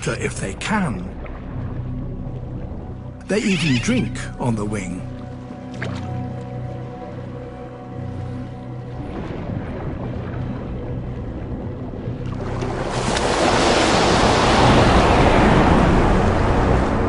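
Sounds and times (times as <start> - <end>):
background music with low notes: 0.0 - 17.0
seawater rushing: 0.0 - 17.0.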